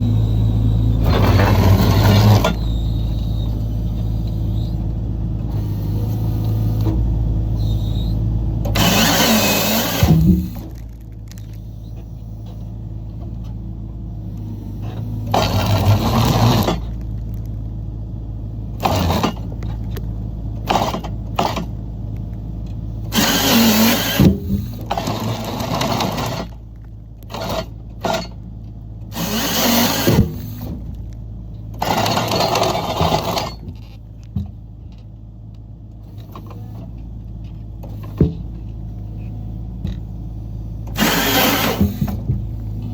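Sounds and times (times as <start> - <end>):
diesel engine running: 0.0 - 42.9
processor head working logs: 0.0 - 42.9.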